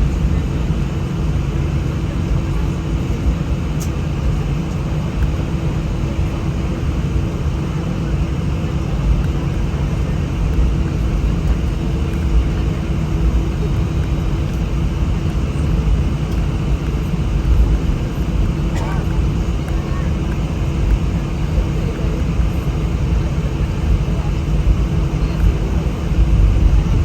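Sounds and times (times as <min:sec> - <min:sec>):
airliner cabin rumble: 0:00.0 - 0:27.0
jet engines humming: 0:00.0 - 0:27.0.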